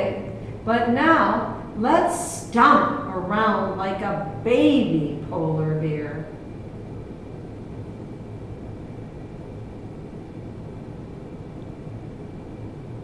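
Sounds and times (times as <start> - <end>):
faint high whine: 0.0 - 13.0
low rumbling room tone: 0.0 - 13.0.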